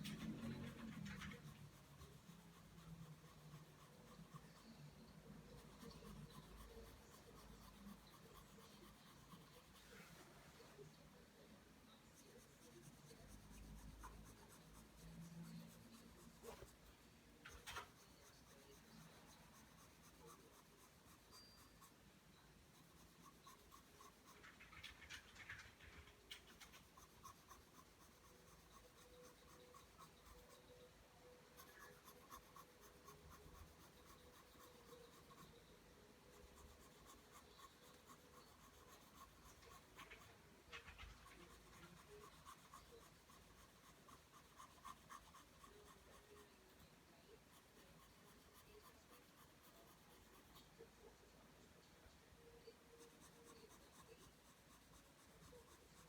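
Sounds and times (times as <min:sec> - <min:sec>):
pencil scratching on paper: 0:00.0 - 0:11.2, 0:12.0 - 0:56.0.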